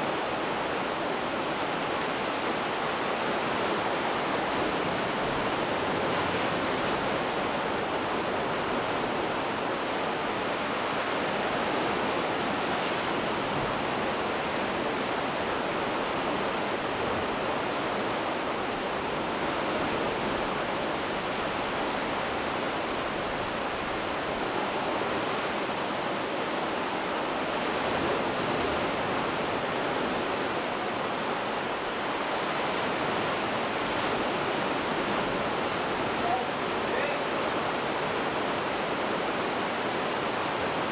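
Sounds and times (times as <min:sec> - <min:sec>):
sea surf rushing: 0:00.0 - 0:40.9.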